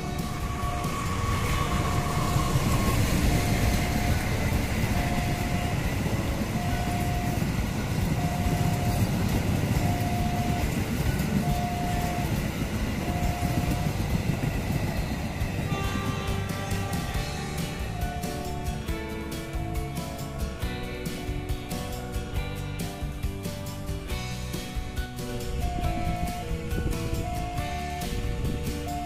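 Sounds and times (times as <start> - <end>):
passenger train rumbling past: 0.0 - 29.0.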